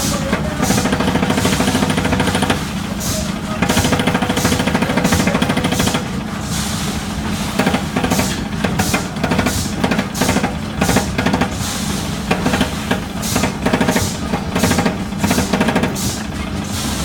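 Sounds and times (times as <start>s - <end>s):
machine motor hum: 0.0s - 17.0s
rapid mechanical ticking: 0.1s - 6.4s, 7.0s - 17.0s.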